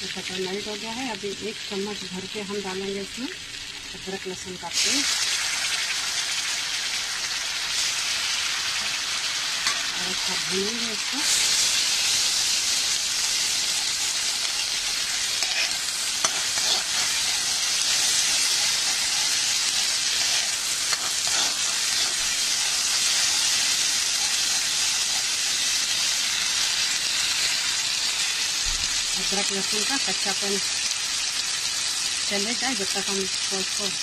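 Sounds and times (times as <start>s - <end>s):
paste sizzling in butter: 0.2s - 34.0s.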